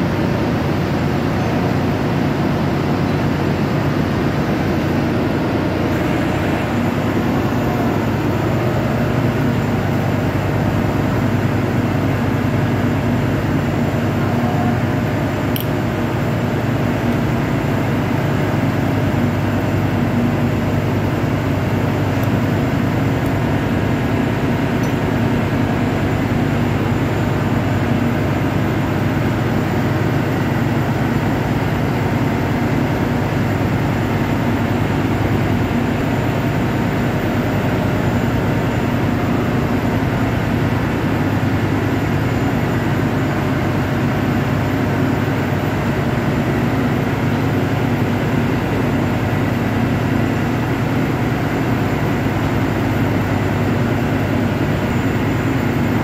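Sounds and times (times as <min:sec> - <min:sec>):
machinery low rumble: 0:00.0 - 0:56.0.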